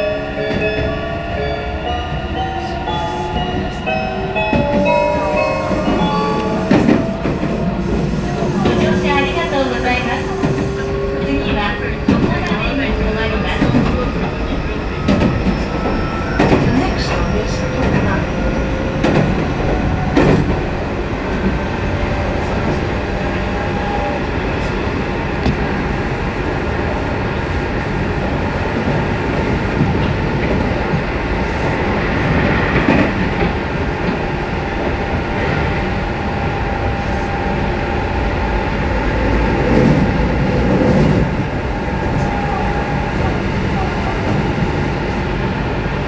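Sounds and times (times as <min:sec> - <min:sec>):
train wheels rumbling on rail: 0:01.8 - 0:46.0.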